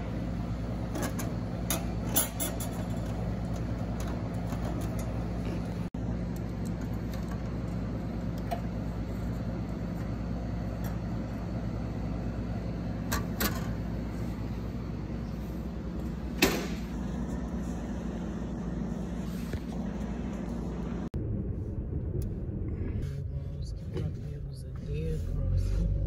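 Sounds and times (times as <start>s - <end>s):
vending machine hum: 0.0s - 26.0s.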